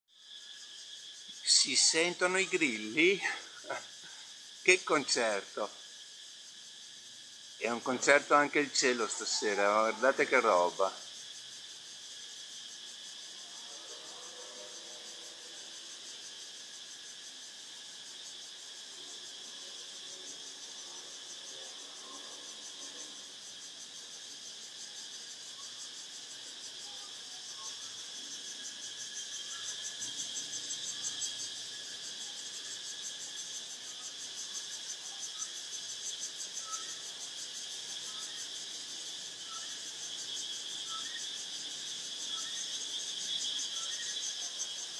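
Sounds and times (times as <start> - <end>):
crickets trilling: 0.1 - 44.9.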